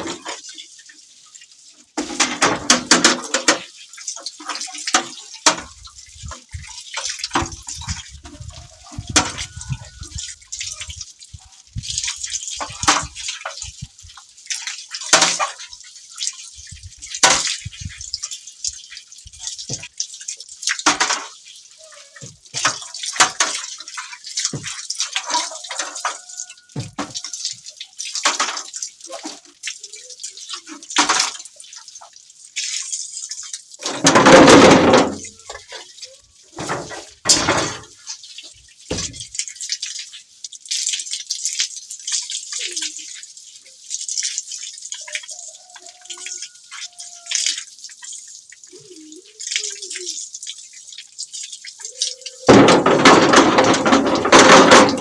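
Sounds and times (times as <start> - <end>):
water splashing and dripping: 0.0 - 55.0.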